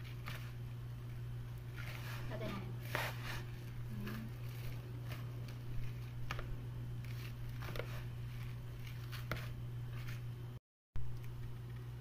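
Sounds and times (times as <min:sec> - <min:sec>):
dough crackling in plastic basin: 0:00.0 - 0:10.3
steady low hum: 0:00.0 - 0:12.0.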